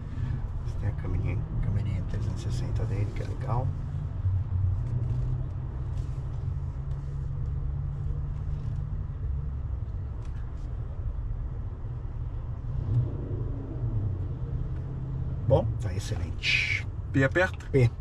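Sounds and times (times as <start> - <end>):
car cabin low rumble: 0.0 - 12.6, 13.8 - 18.0.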